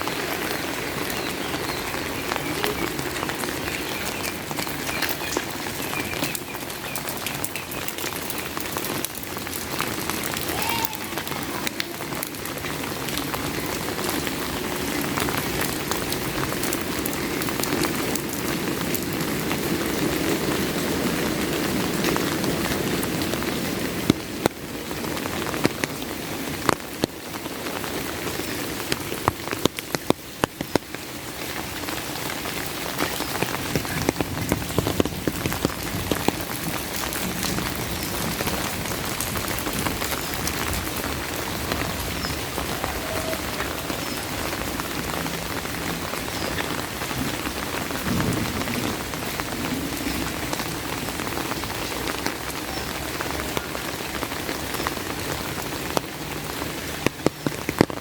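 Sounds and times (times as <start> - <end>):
raindrops ticking close by: 0.0 - 58.0
steady rain: 0.0 - 58.0.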